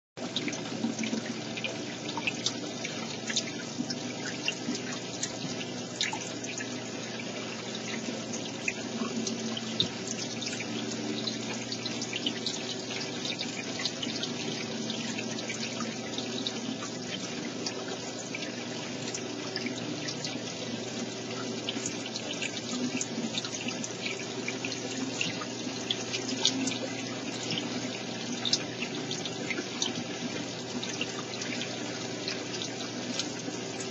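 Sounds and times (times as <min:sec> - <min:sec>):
water drips and splashes: 0:00.2 - 0:33.9
water running and trickling: 0:00.2 - 0:33.9.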